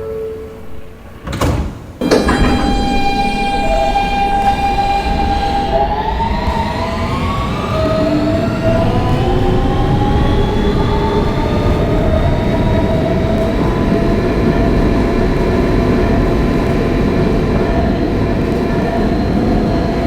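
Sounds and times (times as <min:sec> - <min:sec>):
wheels rumbling on rail: 0:00.0 - 0:20.0
traction motor whine: 0:02.0 - 0:20.0.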